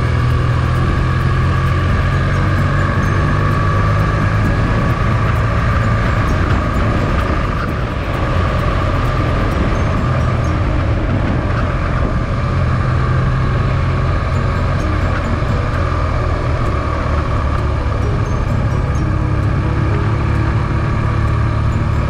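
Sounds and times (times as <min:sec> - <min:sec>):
motorcycle engine running: 0:00.0 - 0:22.0
wind noise: 0:00.0 - 0:22.0.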